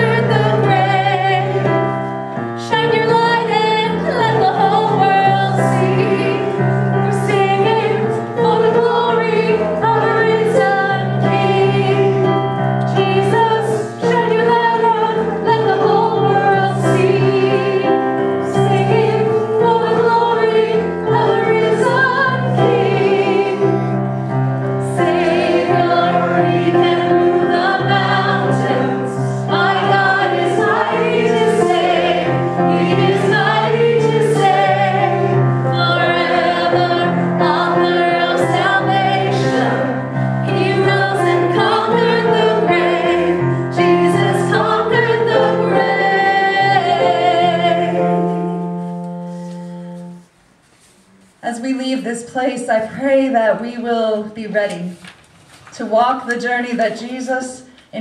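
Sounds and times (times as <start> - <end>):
congregation singing: 0.0 - 50.4
instrumental accompaniment: 0.0 - 51.4.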